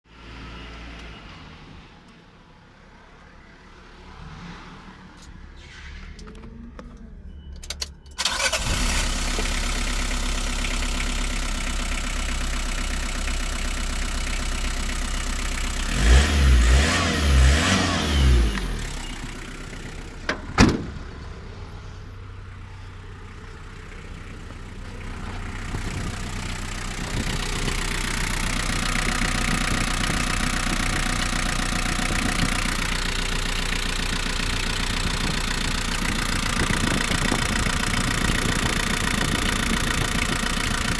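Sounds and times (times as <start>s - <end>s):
diesel engine running and revving: 0.1s - 40.9s.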